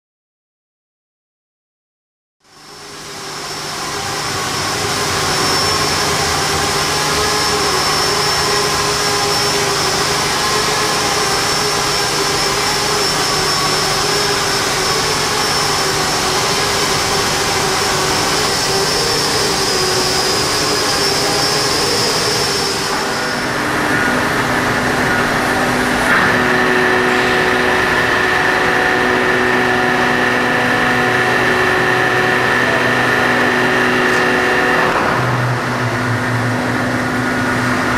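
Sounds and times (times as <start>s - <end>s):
machinery noise with held tones: 2.4s - 37.9s
hissing wash: 2.7s - 36.3s.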